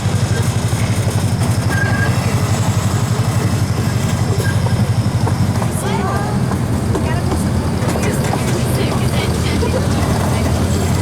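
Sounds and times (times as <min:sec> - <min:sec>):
train engine chugging: 0:00.0 - 0:11.0.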